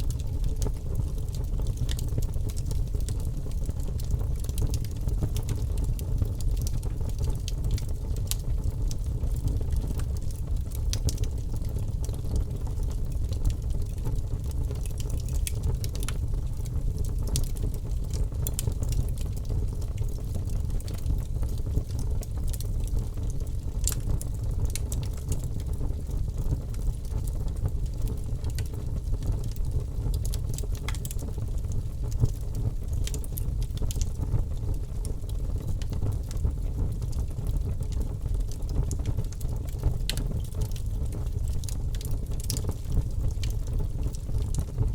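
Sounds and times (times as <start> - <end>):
fire crackling and popping: 0.0 - 44.9
fire low rumble: 0.0 - 44.9.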